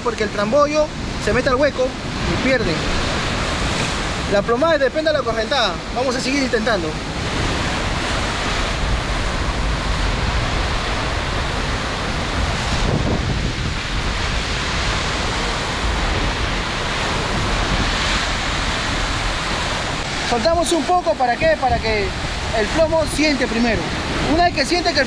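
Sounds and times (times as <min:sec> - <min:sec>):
surf breaking on rocks: 0:00.0 - 0:25.0
wind buffeting microphone: 0:00.0 - 0:25.0.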